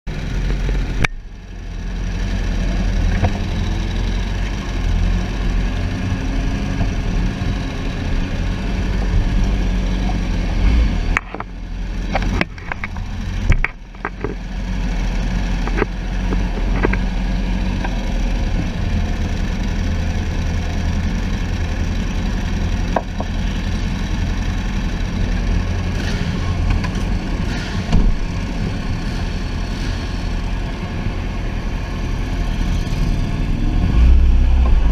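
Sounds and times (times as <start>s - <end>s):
motorcycle engine at low revs: 0.1s - 34.9s.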